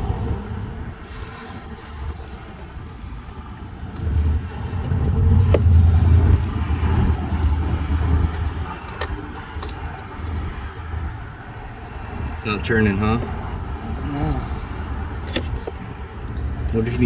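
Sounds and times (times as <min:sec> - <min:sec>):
vehicle passing rumble: 0:00.0 - 0:17.0.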